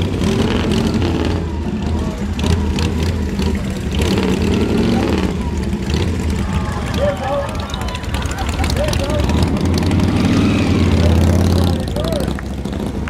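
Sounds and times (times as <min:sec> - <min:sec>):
crowd voices: 0:00.0 - 0:13.0
motorcycle engines rumbling: 0:00.0 - 0:13.0.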